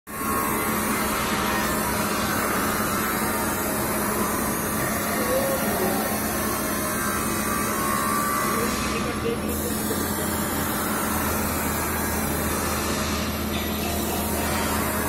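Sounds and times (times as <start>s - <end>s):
machinery drone: 0.1s - 15.0s.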